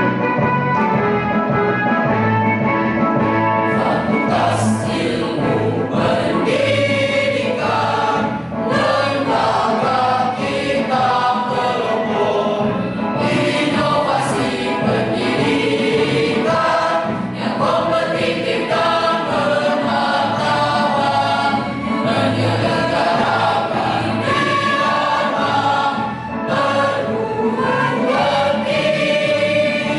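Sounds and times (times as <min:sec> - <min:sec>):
low accompaniment: 0:00.0 - 0:29.9
mixed choir singing: 0:03.7 - 0:29.9.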